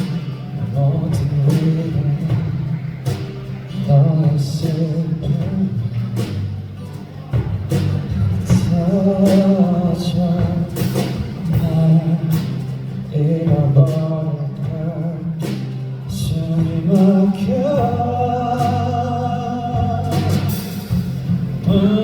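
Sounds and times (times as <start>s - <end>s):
band accompaniment: 0.0s - 22.0s.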